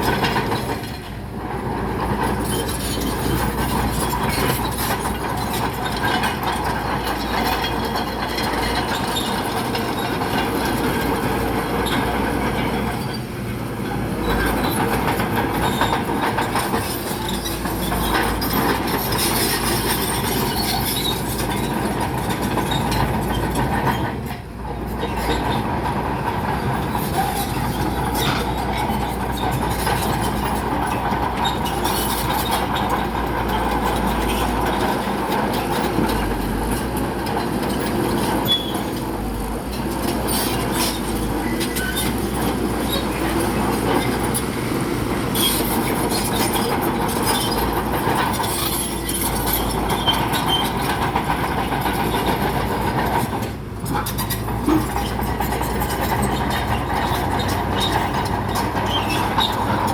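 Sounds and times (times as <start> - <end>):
bulldozer diesel engine: 0.0 - 59.9
steel tracks clanking: 0.0 - 59.9.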